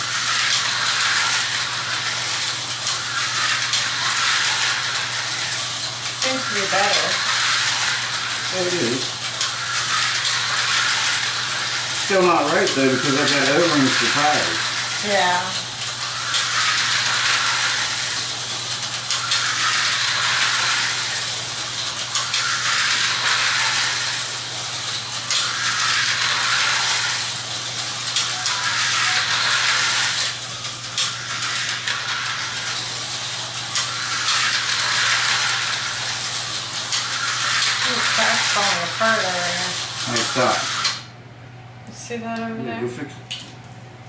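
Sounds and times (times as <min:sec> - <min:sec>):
slot car motors whirring and rattling: 0:00.0 - 0:41.1.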